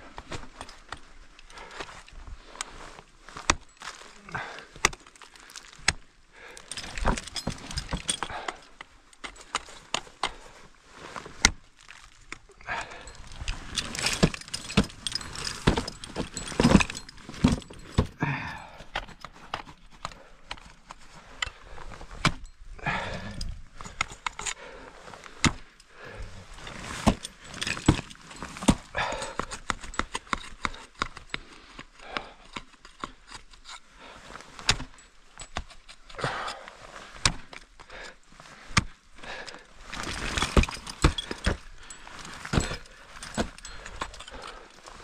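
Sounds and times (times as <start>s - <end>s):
metal climbing hardware clinking: 0.2s - 45.0s.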